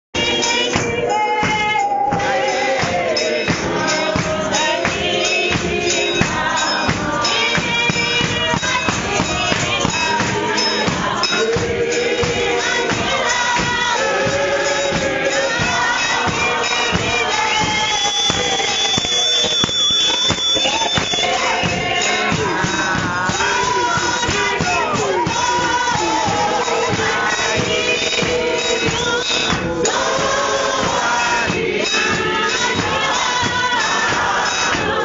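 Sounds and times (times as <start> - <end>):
congregation singing: 0.2 - 35.0
tambourine-like percussion: 0.2 - 35.0
hand claps: 0.3 - 30.3.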